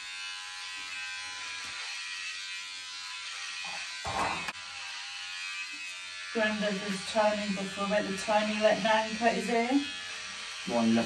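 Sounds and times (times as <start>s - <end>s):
hair clipper buzzing: 0.0s - 11.0s.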